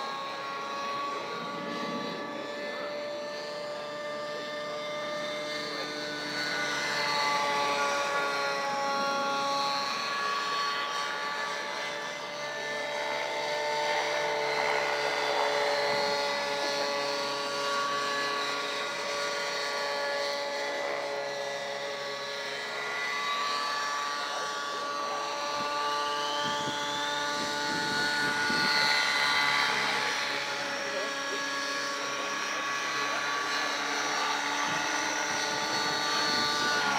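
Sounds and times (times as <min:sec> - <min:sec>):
rc helicopter motor whine: 0:00.0 - 0:36.9.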